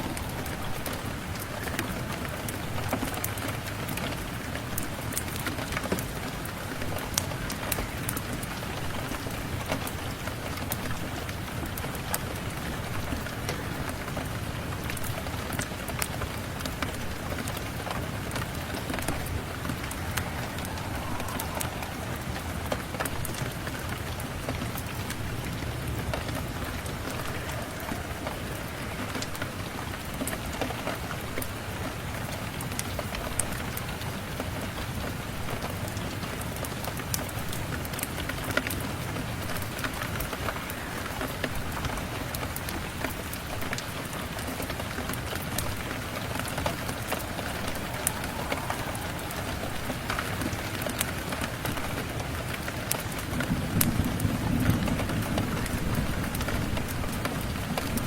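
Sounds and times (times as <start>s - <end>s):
wood fire crackling: 0.0s - 34.0s, 40.4s - 58.0s
steady rain: 0.0s - 58.0s.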